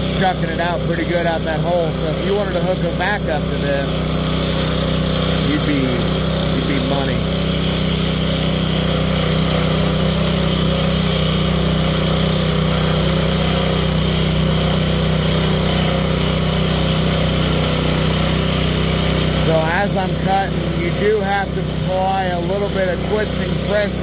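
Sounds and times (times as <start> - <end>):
concrete saw cutting concrete: 0.0 - 24.0.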